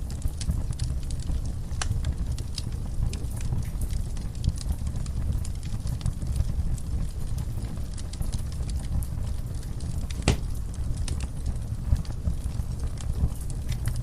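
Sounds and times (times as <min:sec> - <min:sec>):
fire crackling and popping: 0:00.0 - 0:14.0
fire rumbling: 0:00.0 - 0:14.0.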